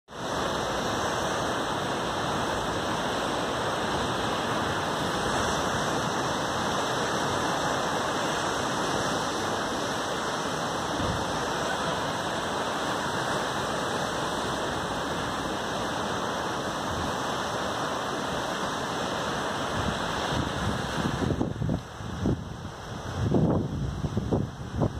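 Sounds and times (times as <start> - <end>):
surf breaking on rocks: 0.1 - 24.9.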